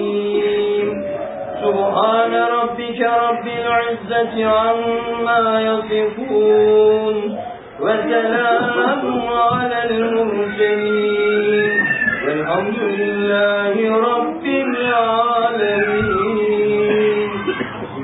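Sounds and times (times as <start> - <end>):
men chanting a low drone: 0.0 - 18.0
voice singing a melody: 0.0 - 18.0.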